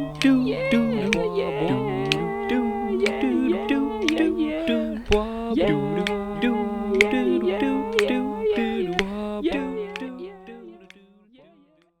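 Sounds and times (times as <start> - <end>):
clicky mouth percussion: 0.0 - 10.3
hummed melody: 0.0 - 10.8
low vocal drone: 0.0 - 10.9.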